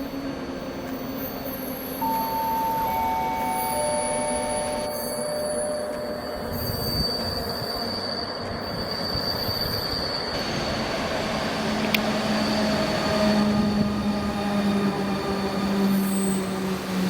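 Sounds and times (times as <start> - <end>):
train wheels squealing on rails: 0.0 - 17.0.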